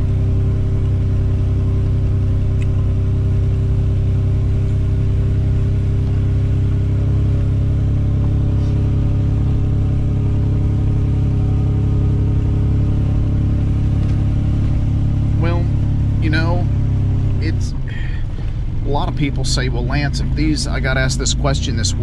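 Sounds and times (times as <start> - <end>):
motor humming steadily: 0.0 - 22.0.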